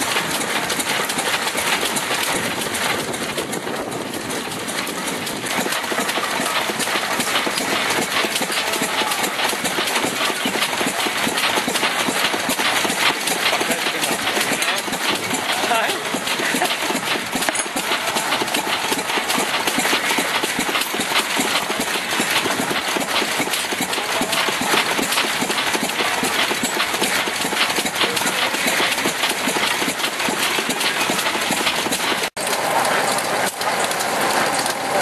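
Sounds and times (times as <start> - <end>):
metal shear clattering: 0.0 - 34.8.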